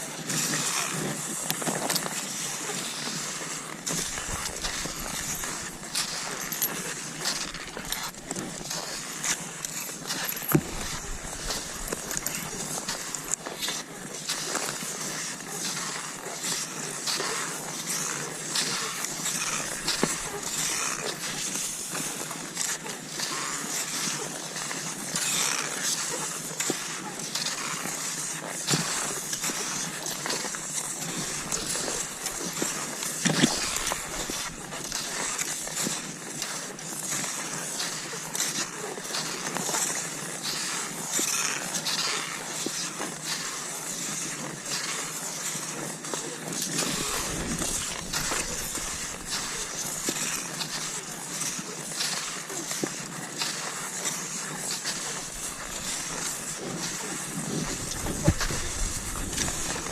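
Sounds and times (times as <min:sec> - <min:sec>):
skis swishing over snow: 0:00.0 - 0:59.9.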